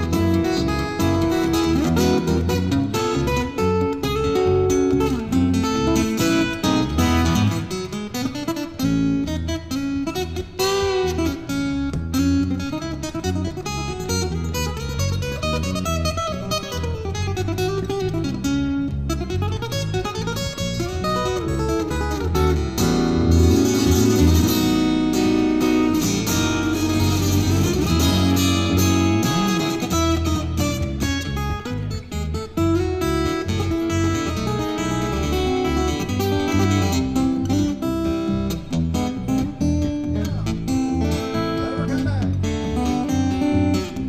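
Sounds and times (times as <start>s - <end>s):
deep bass line: 0.0s - 44.0s
fingerstyle acoustic guitar: 0.0s - 44.0s.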